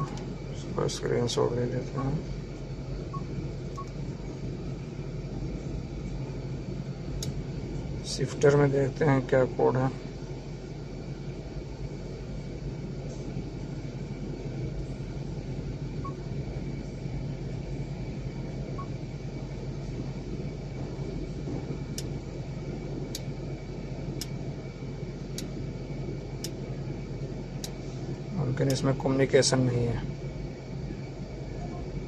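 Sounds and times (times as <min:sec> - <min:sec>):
vehicle cabin hum: 0:00.0 - 0:32.0.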